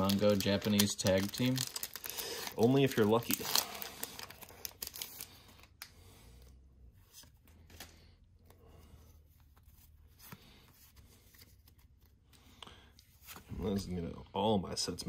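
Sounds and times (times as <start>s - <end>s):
trading cards rustling and flicking: 0.0s - 5.9s, 6.9s - 13.5s.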